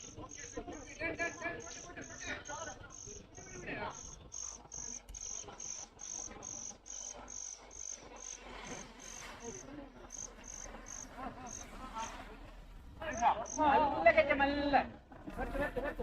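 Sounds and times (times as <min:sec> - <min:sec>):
cricket chirping: 0:00.0 - 0:14.4
faint voices murmuring: 0:00.0 - 0:16.0.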